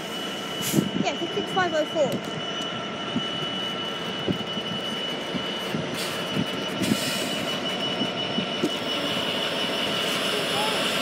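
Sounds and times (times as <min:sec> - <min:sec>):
freight train wagons rumbling: 0:00.0 - 0:11.0
steady high whine: 0:00.0 - 0:11.0.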